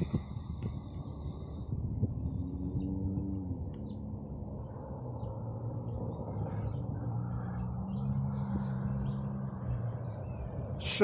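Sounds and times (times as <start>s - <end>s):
low steady rumble: 0.0s - 10.8s
small birds chirping: 0.0s - 11.0s.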